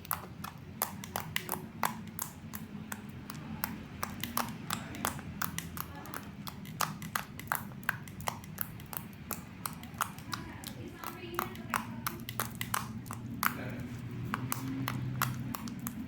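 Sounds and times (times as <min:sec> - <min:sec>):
slime clicking and popping: 0:00.0 - 0:16.0.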